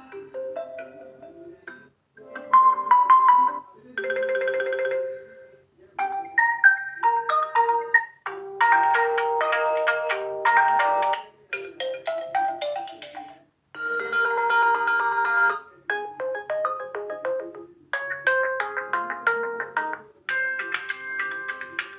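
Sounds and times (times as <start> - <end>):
phone ringtone melodies: 0.0 - 1.6, 2.2 - 21.9.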